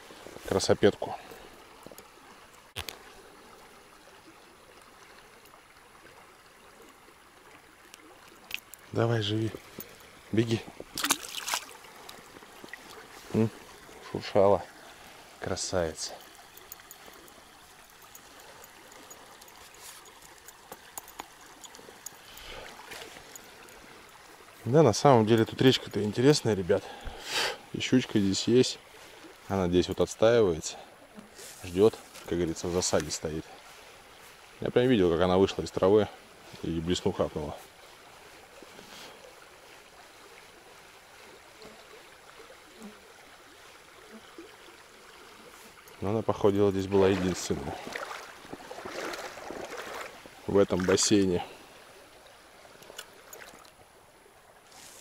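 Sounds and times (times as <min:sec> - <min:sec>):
small river flowing: 0:00.0 - 0:55.0.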